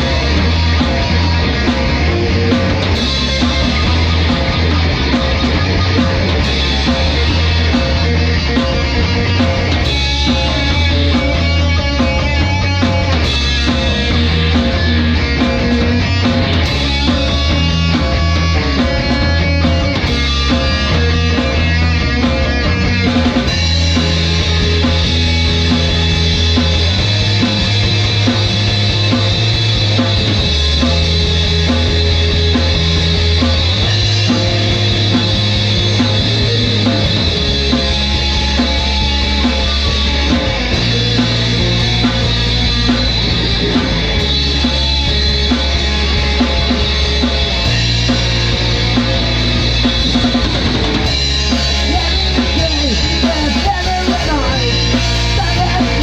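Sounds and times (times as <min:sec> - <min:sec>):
instrumental rock music: 0:00.0 - 0:56.0.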